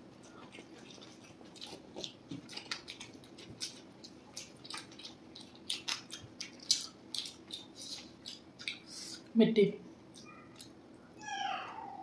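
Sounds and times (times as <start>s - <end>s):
wet squishy eating sounds: 0.0s - 9.3s, 10.1s - 10.8s.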